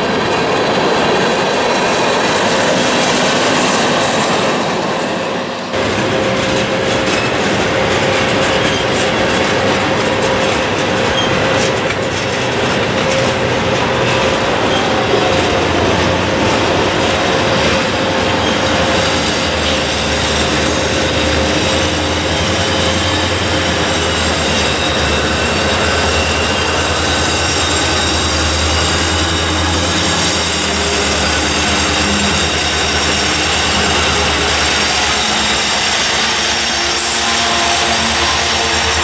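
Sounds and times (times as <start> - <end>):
freight cars rolling on rails: 0.0 - 39.0
thin wheel squeal: 6.3 - 39.0.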